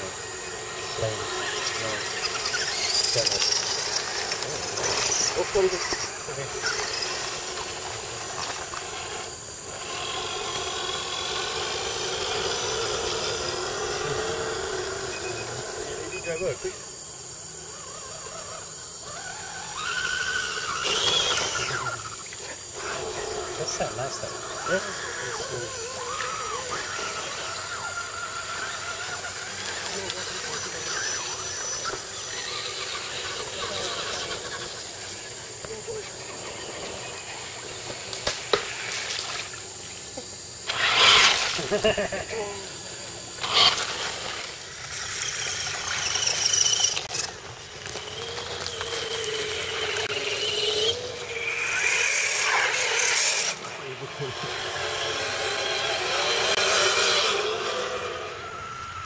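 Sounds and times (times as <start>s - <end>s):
toy car electric motor whining: 0.0s - 59.0s.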